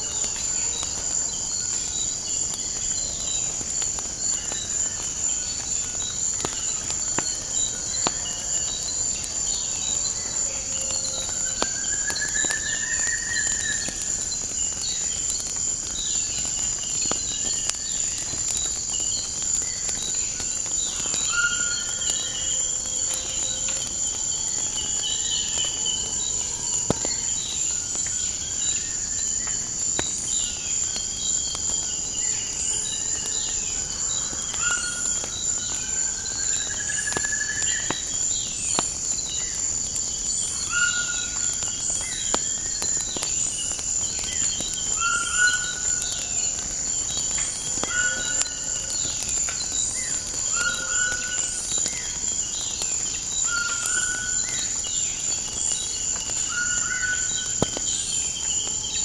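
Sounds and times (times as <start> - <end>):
crickets trilling: 0.0 - 59.0
wood fire crackling: 0.0 - 59.0.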